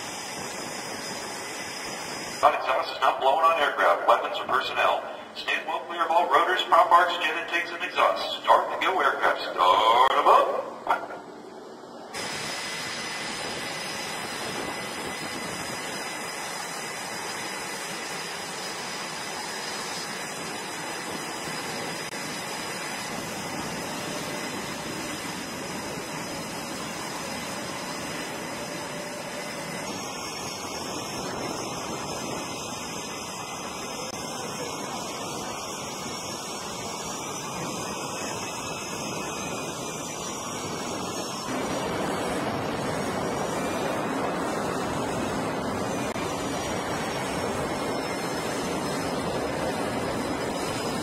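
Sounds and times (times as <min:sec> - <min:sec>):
high turbine whine: 0:00.0 - 0:51.0
jet engines roaring: 0:00.0 - 0:51.0.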